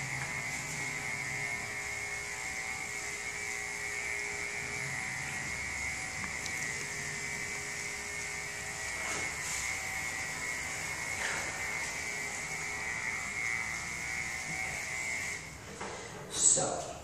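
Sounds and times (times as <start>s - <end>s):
electric clippers humming: 0.0s - 15.8s.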